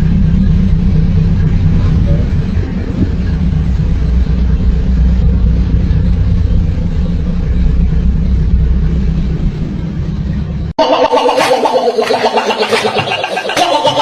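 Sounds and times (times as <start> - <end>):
motor vehicle rumbling: 0.0 - 14.0.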